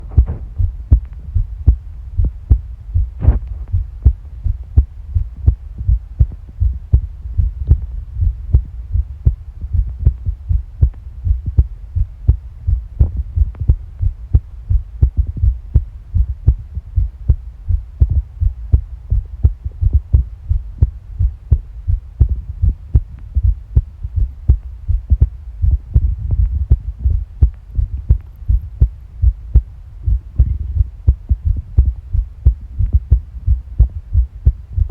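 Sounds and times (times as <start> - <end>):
heartbeat thumps: 0.0 - 34.9.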